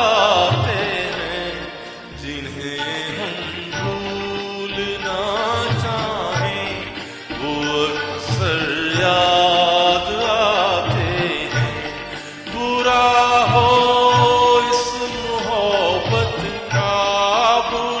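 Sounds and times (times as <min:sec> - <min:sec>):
melodic instrumental line: 0:00.0 - 0:18.0.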